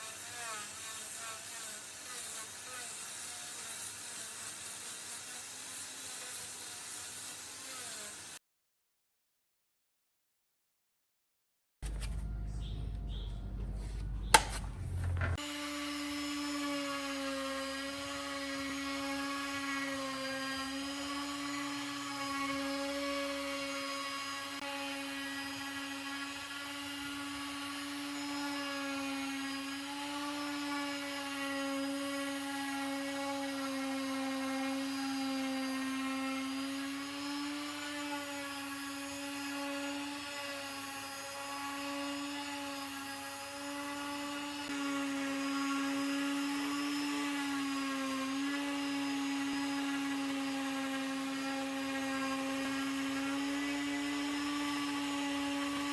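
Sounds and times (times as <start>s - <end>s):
power tool motor whining: 0.0s - 8.4s, 14.3s - 55.9s.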